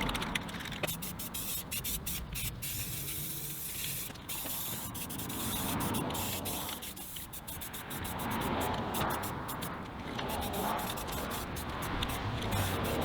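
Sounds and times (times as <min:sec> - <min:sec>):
spray paint can hissing: 0:00.8 - 0:13.0.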